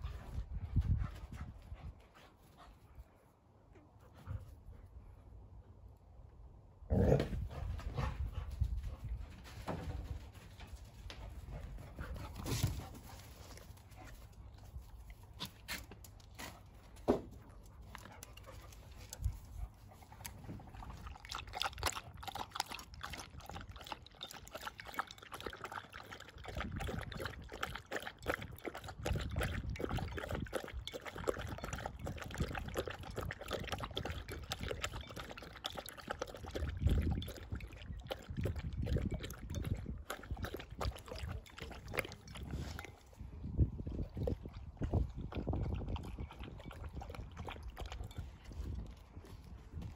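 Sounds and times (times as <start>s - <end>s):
dogs lapping water: 7.4s - 49.9s.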